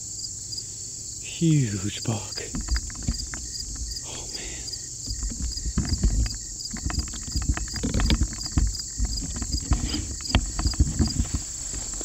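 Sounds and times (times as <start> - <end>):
insect chorus chirping: 0.0 - 12.0
footsteps: 2.3 - 12.0
handling knocks and thumps: 2.4 - 12.0.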